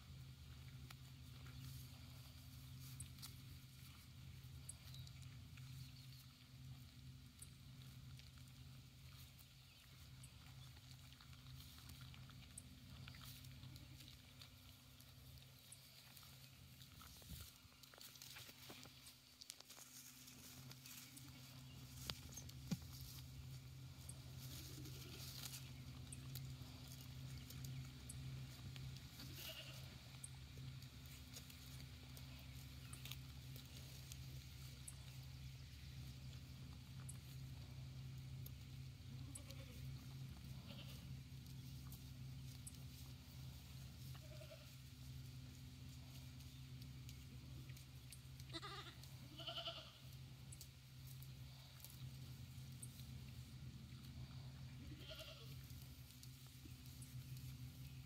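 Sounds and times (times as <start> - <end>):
goat grazing grass tearing: 0.0 - 58.0
low steady hum: 0.0 - 58.0.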